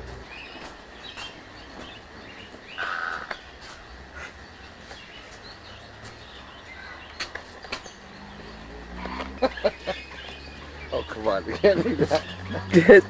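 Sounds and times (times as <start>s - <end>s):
birds chirping: 0.0s - 13.0s
harsh rattling bird call: 0.0s - 13.0s.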